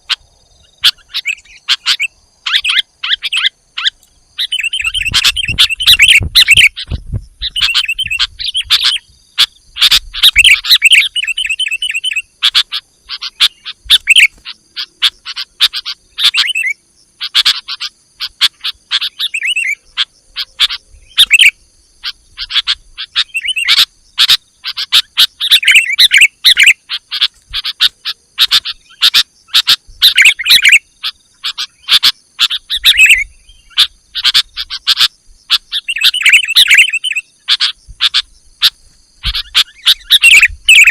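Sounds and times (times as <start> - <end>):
bird chattering calls: 0.0 - 40.9.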